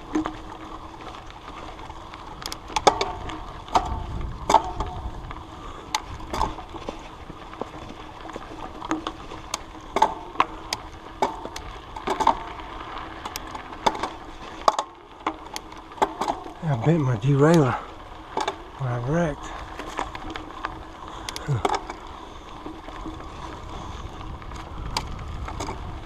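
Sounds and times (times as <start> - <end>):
bike chain rattling: 0.0 - 26.0
bike clicks and knocks: 0.0 - 26.0.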